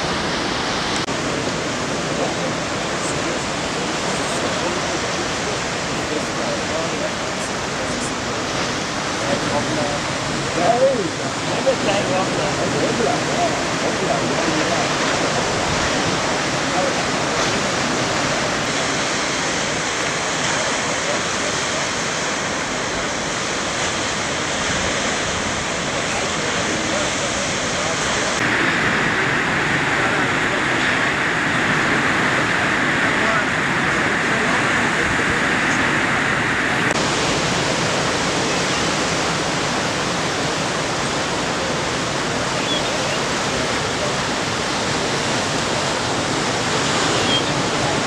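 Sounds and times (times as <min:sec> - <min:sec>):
ocean waves breaking on rocks: 0:00.0 - 0:48.0.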